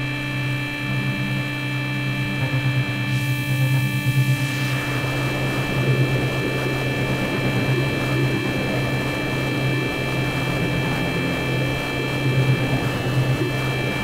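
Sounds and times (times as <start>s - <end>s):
electric guitar ambient drone: 0.0s - 14.0s.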